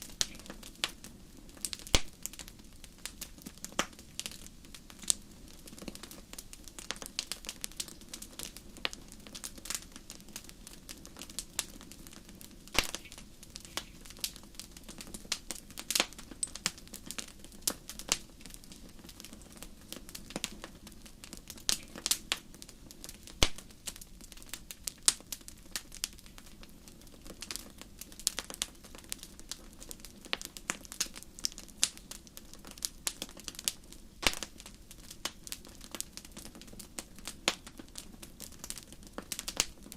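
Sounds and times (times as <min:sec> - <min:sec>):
low rumble of burning fire: 0:00.0 - 0:39.9
wood fire crackling and popping: 0:00.0 - 0:39.9.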